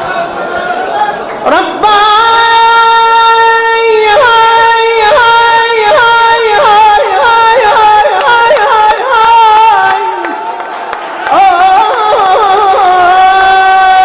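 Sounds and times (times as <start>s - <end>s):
high voice singing without words: 1.4s - 14.0s.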